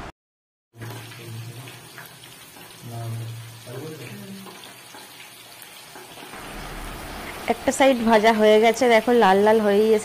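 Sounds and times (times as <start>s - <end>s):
chicken sizzling in oil: 0.8s - 10.0s.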